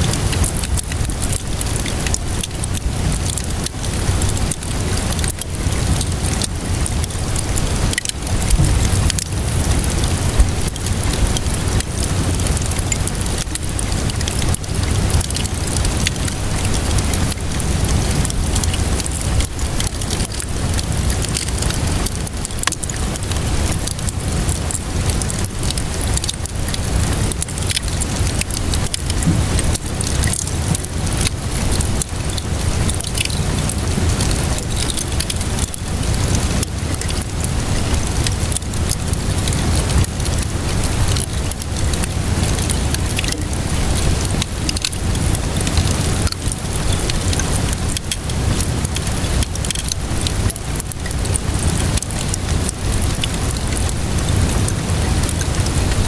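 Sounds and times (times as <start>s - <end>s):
fire crackling and popping: 0.0s - 56.0s
rain pattering: 0.0s - 56.0s.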